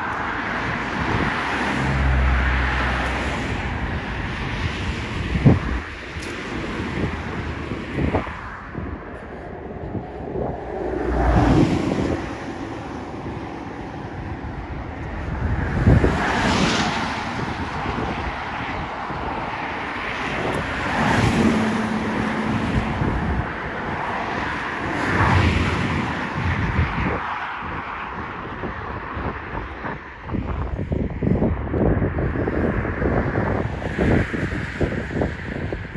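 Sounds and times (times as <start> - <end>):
wind on microphone: 0.0 - 35.9.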